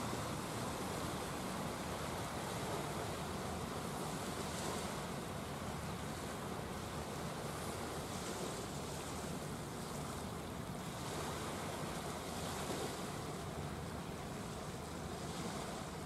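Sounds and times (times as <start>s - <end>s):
small waves washing ashore: 0.0s - 16.0s.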